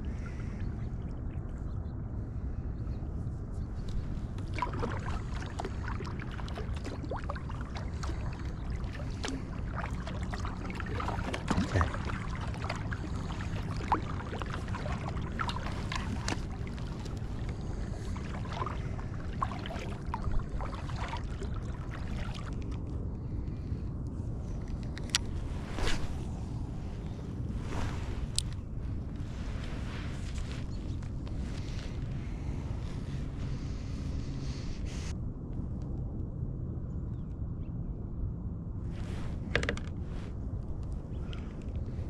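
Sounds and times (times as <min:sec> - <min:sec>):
low rumble: 0:00.0 - 0:42.0.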